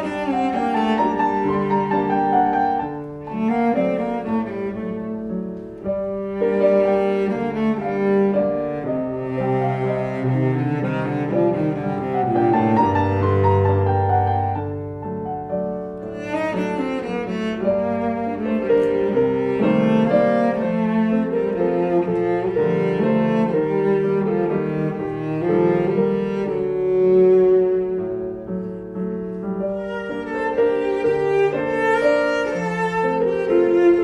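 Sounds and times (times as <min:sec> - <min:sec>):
cello: 0:00.0 - 0:34.0
piano: 0:00.0 - 0:34.0.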